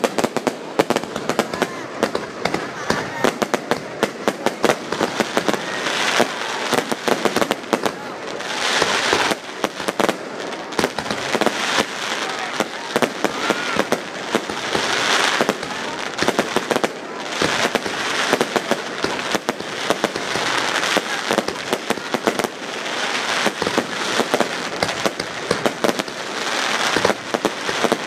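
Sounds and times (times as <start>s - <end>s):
fireworks crackling hiss: 0.0s - 28.0s
fireworks popping and banging: 0.0s - 28.0s.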